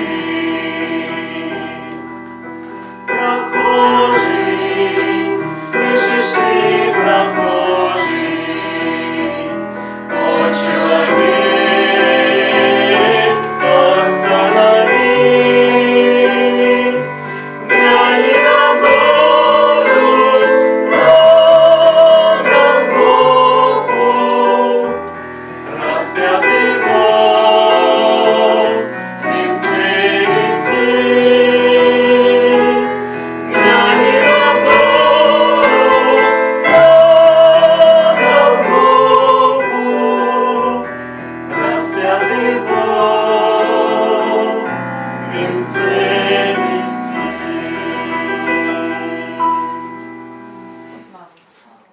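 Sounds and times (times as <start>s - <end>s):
choir singing: 0.0s - 51.3s.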